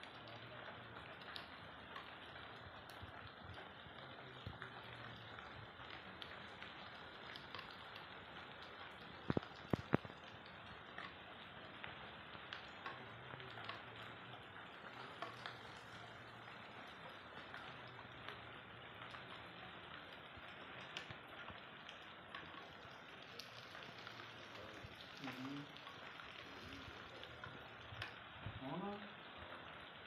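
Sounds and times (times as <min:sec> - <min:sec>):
light rain hissing: 0:00.0 - 0:30.0
raindrops ticking: 0:00.0 - 0:30.0.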